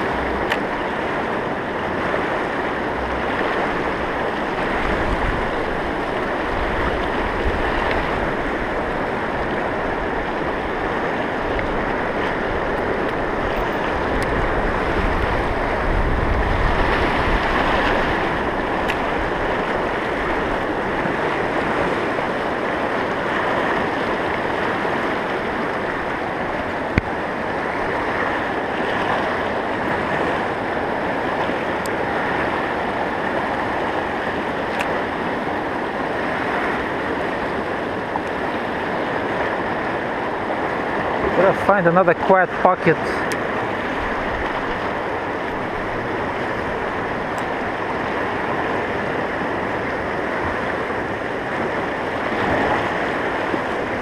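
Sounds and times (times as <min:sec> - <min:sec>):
river rushing over rocks: 0:00.0 - 0:54.0
wind gusts on microphone: 0:00.0 - 0:54.0.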